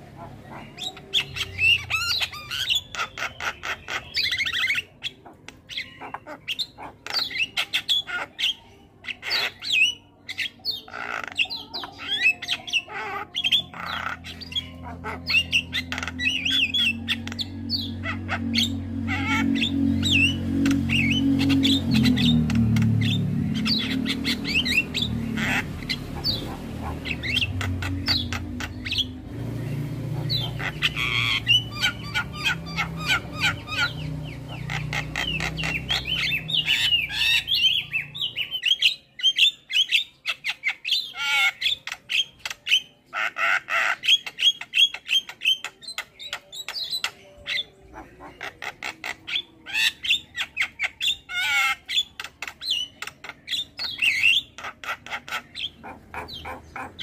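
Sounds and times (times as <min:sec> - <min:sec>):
starlings chattering: 0:00.0 - 0:57.0.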